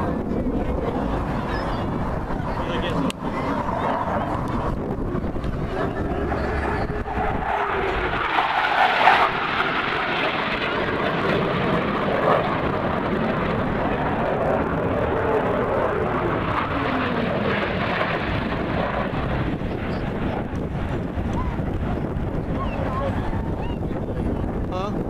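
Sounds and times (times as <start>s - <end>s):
airplane flying past: 0.0s - 25.0s.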